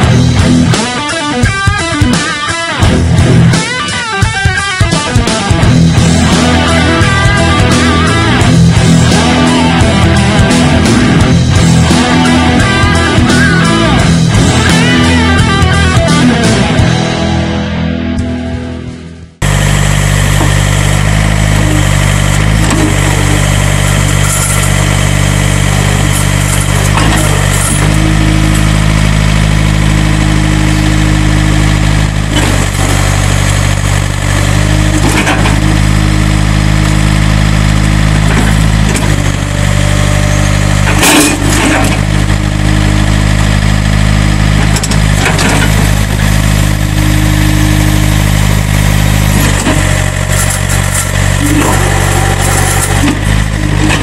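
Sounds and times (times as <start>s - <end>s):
high hydraulic whine: 0.0s - 17.6s, 18.3s - 54.0s
diesel engine running: 0.0s - 54.0s.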